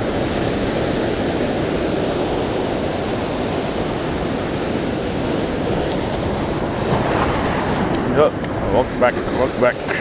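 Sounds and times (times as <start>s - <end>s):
surf breaking over sand and rocks: 0.0s - 10.0s.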